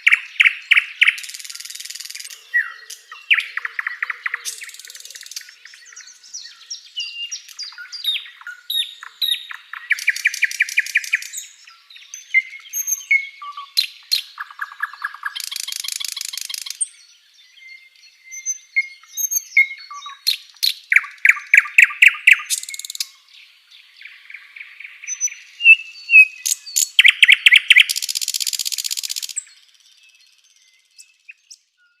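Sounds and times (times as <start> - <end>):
bird singing varied song: 0.0 - 32.0.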